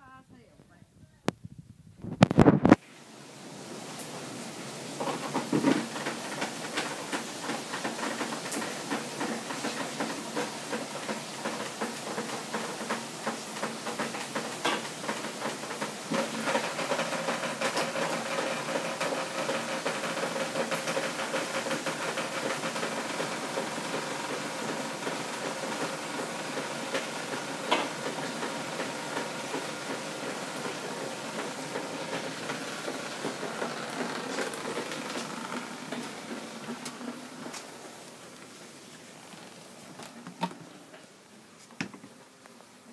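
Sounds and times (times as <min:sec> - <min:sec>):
hail pelting hard surfaces: 0:02.2 - 0:42.4.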